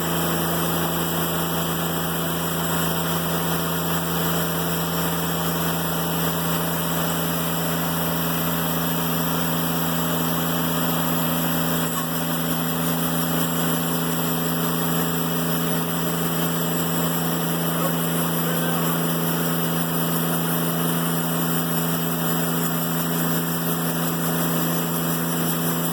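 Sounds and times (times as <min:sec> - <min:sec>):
band sawmill cutting wood: 0:00.0 - 0:25.9.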